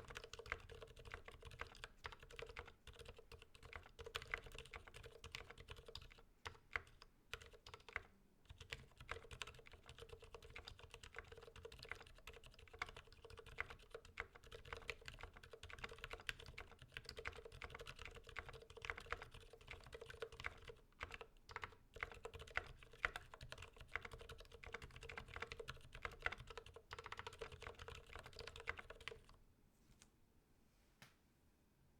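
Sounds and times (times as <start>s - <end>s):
quiet mechanical keyboard typing: 0.0s - 29.4s.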